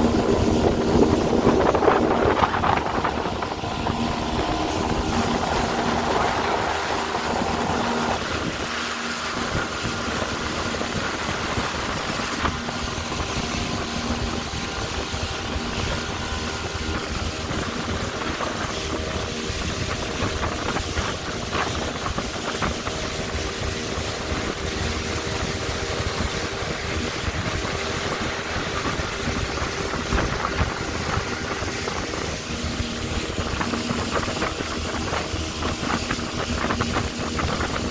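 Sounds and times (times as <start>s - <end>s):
motorboat engine running: 0.0s - 37.9s
wind noise on microphone: 0.0s - 37.9s.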